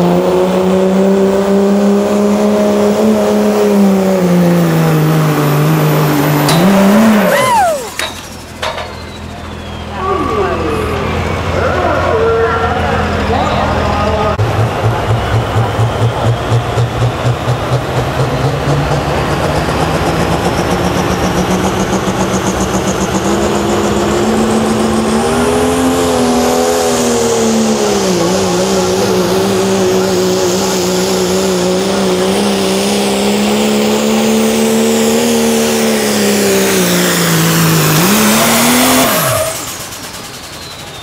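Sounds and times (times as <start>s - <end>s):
diesel engine under heavy load: 0.0s - 41.0s
turbocharger whistle: 5.6s - 41.0s.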